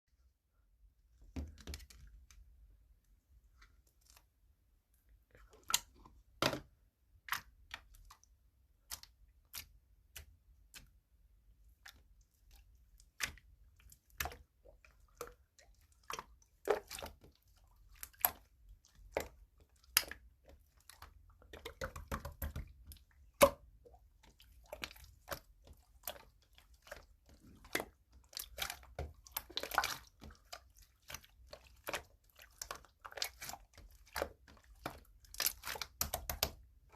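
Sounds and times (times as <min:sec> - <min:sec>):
slime squelching and popping: 0:05.2 - 0:36.9.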